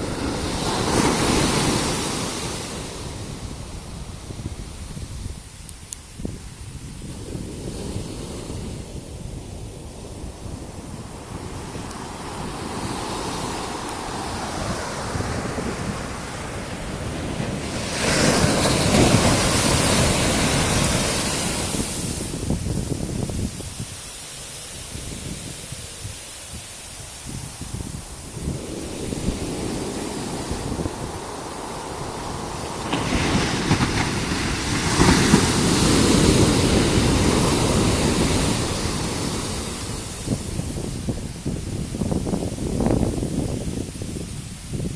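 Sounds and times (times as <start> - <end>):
ocean surf on a beach: 0.0 - 44.9
wave breaking and washing: 0.0 - 44.9
wind on the microphone: 0.0 - 44.9.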